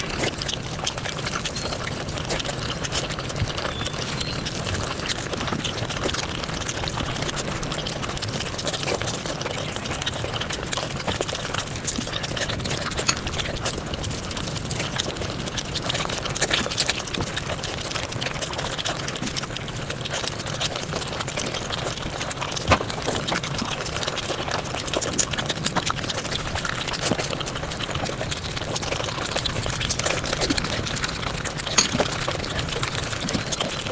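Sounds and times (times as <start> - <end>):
sped-up chewing and mouth noises: 0.0 - 33.9.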